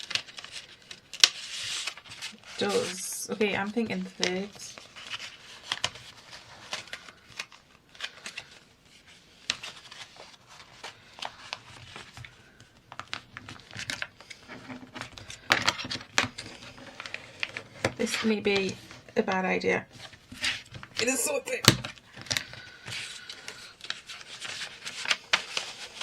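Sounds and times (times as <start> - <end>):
paper being folded: 0.0 - 19.2, 19.9 - 26.0.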